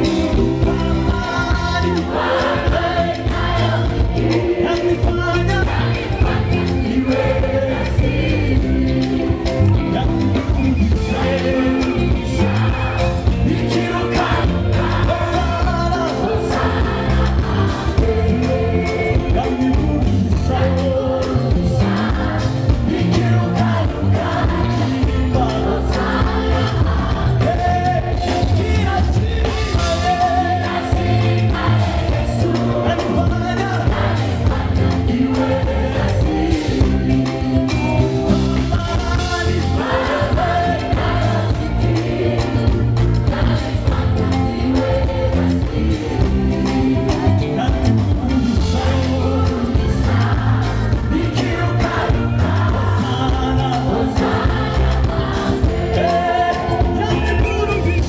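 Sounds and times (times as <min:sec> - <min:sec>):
backing vocalists singing: 0:00.0 - 0:58.0
full band playing: 0:00.0 - 0:58.0
man singing lead: 0:00.0 - 0:58.0.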